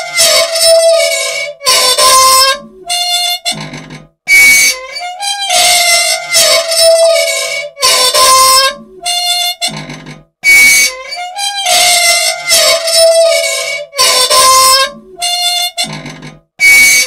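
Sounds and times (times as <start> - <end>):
machine squealing: 0.0 - 17.0.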